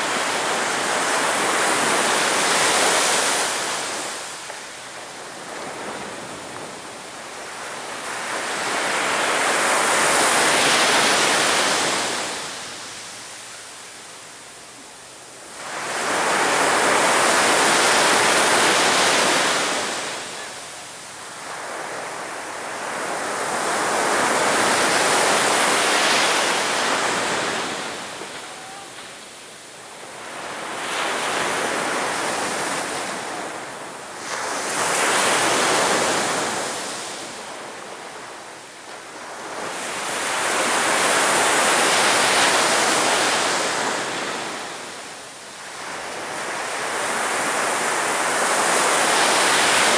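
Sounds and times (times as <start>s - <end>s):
sea waves breaking on a beach: 0.0s - 49.9s.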